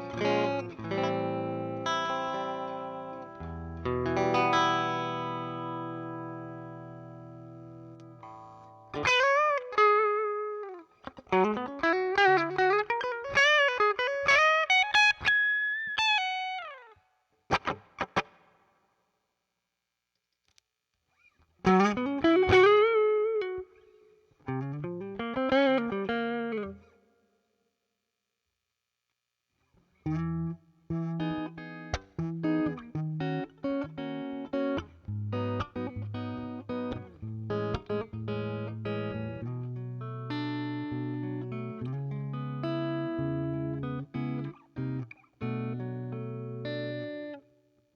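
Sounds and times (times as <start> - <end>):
electric guitar lead melody: 0.0 - 18.4, 21.6 - 27.0, 30.0 - 47.6.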